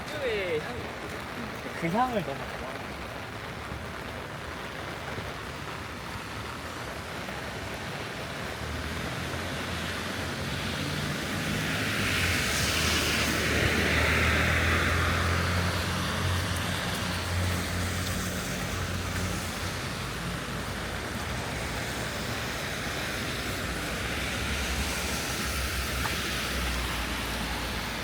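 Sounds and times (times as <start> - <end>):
rain: 0.0 - 28.0
tyres hissing on wet pavement: 0.0 - 28.0.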